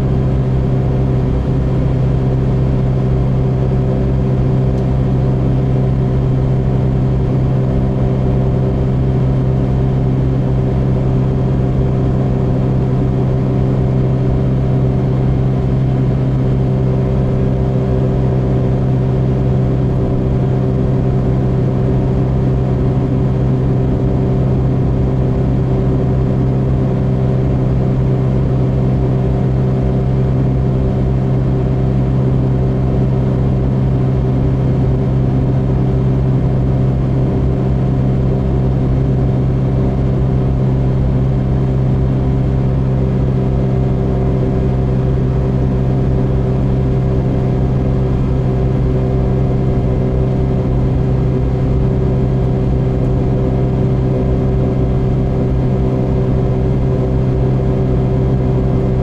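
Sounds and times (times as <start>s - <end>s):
car cabin engine and tyre drone: 0.0s - 59.0s.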